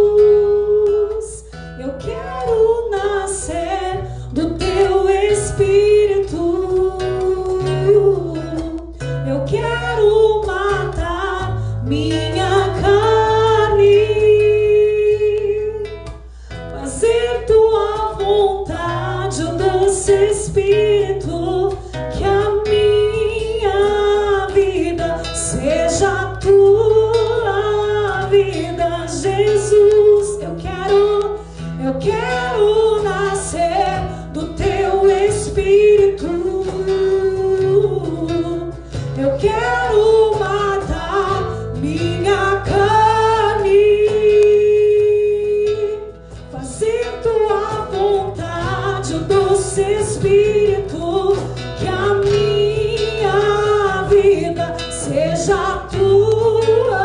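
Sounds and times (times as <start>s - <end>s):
cajon beat: 0.0s - 57.0s
strummed acoustic guitar: 0.0s - 57.0s
woman singing: 0.0s - 57.0s.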